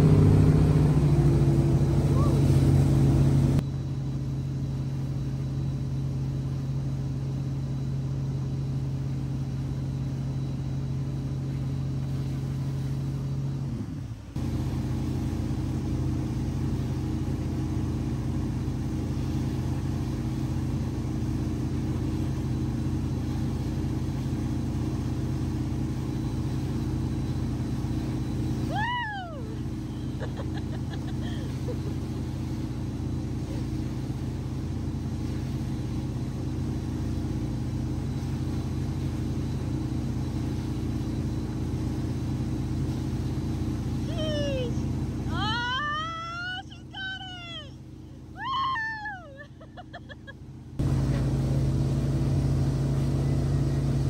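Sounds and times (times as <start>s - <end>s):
churning wake water hissing: 0.0s - 3.6s, 4.6s - 54.0s
boat engine droning: 0.0s - 54.0s.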